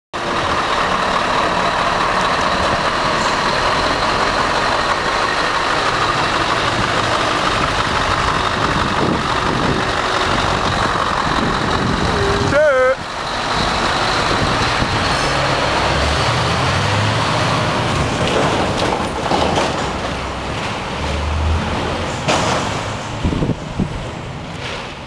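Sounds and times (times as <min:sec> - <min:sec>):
truck diesel engine running: 0:00.2 - 0:25.0.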